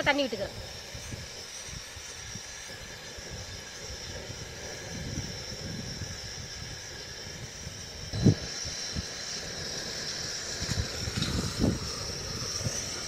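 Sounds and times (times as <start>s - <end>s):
stove hissing: 0.0s - 13.0s.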